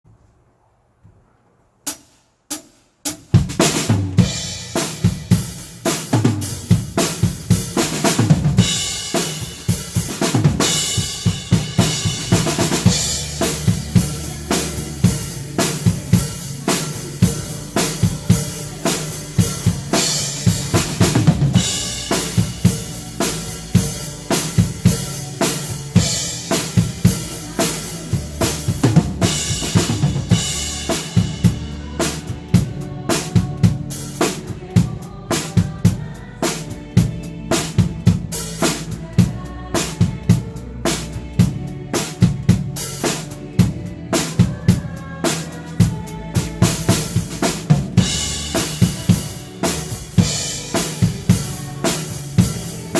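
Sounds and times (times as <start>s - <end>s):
drum kit beat: 1.9s - 52.9s.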